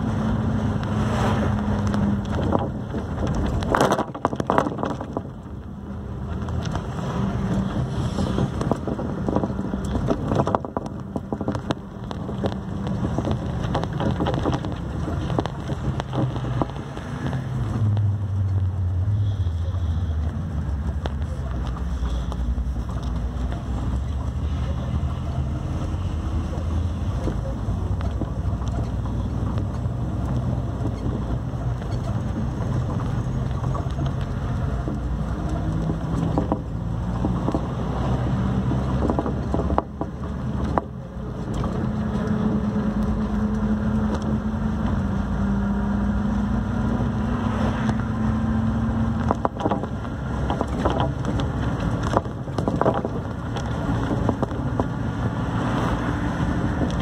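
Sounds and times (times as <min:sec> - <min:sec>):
wind noise on microphone: 0:00.0 - 0:19.1, 0:25.4 - 0:57.0
steady engine hum: 0:00.0 - 0:57.0
vehicle engine and road noise: 0:00.0 - 0:57.0.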